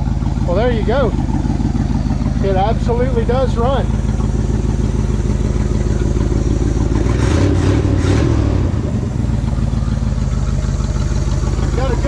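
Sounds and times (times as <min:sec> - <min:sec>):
truck engine idling with exhaust leak: 0:00.0 - 0:12.0.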